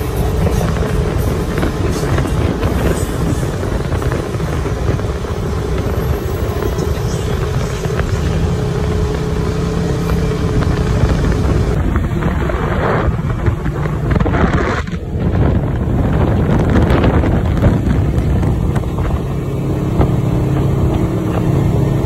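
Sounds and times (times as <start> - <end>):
rush of noise: 0.0 - 22.0
vehicle engine running: 0.0 - 22.0.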